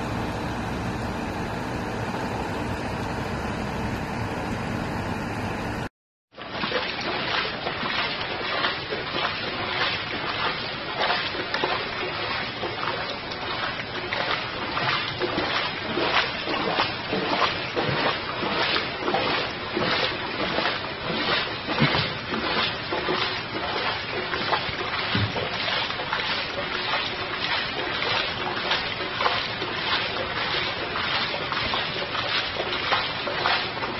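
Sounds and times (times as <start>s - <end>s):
footsteps splashing through water: 6.4s - 33.9s.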